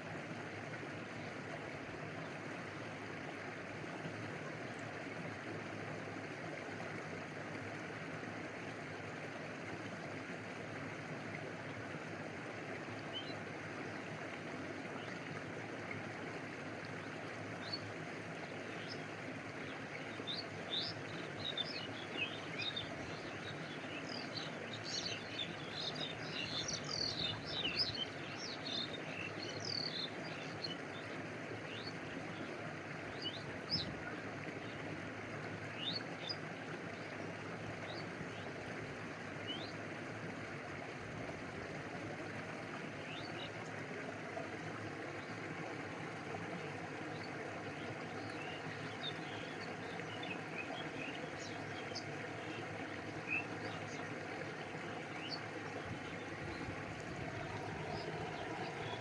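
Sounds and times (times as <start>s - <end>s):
small waterfall: 0.0s - 59.0s
stream rushing: 0.0s - 59.0s.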